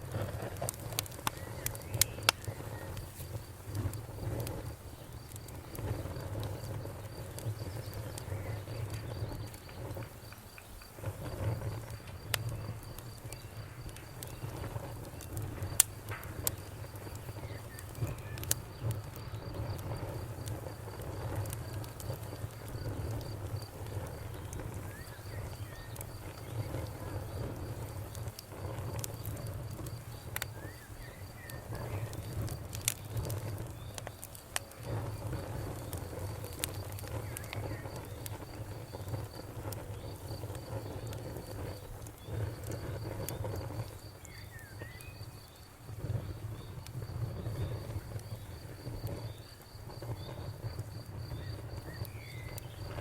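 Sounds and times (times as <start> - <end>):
bonfire crackling and popping: 0.0 - 53.0
cricket chirping: 1.2 - 53.0.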